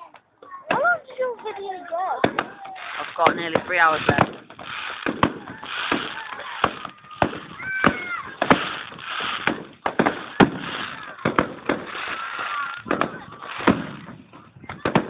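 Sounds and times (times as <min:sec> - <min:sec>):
firework shells bursting: 0:02.2 - 0:15.0.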